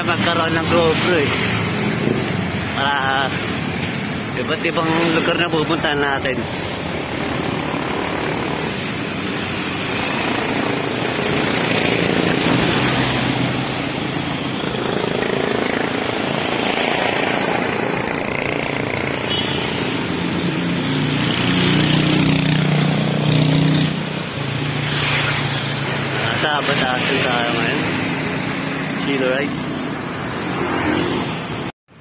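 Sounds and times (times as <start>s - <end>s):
city traffic: 0.0s - 32.0s.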